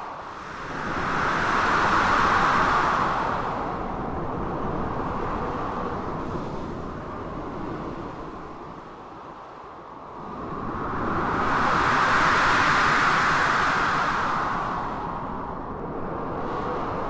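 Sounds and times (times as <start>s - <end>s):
blizzard wind: 0.0s - 17.0s.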